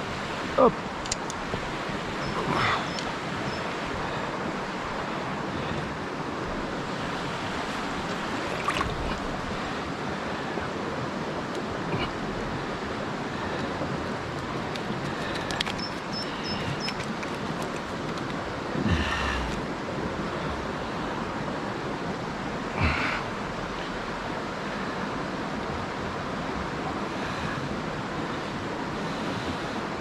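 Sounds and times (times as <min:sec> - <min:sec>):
river water rushing over shallows: 0:00.0 - 0:30.0.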